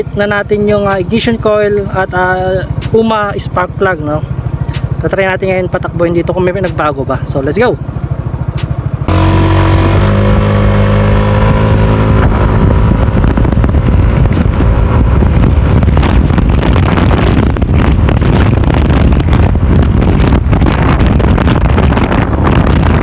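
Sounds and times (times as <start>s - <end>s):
scooter engine running: 0.0s - 23.0s
wind rushing over microphone: 0.0s - 23.0s.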